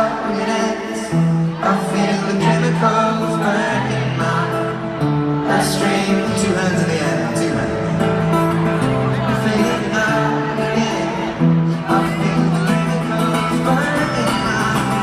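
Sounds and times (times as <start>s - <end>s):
acoustic guitar: 0.0s - 15.0s
wordless vocals: 0.0s - 15.0s.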